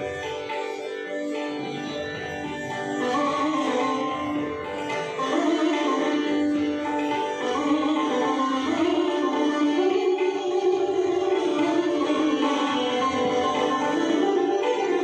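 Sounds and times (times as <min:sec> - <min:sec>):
sitar melody: 0:00.0 - 0:15.0.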